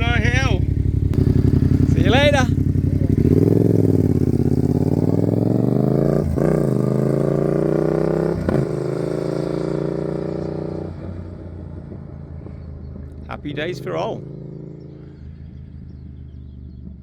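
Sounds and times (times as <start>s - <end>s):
motorcycle accelerating: 0.0s - 17.0s.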